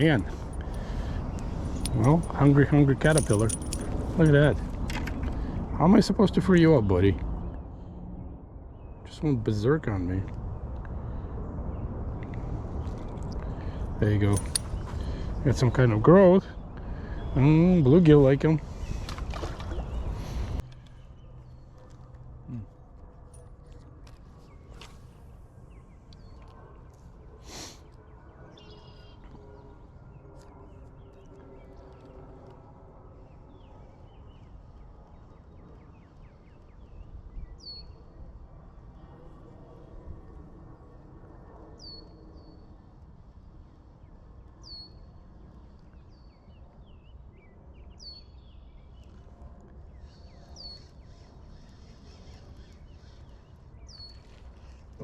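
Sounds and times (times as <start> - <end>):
steady low rumble: 0.0 - 46.1.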